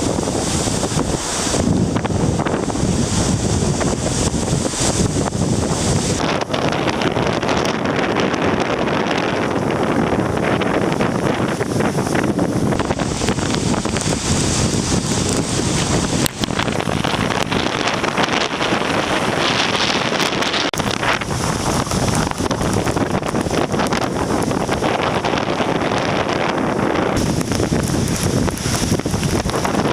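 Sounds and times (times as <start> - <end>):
heavy wind on microphone: 0.0 - 29.9
waves rushing: 0.0 - 29.9.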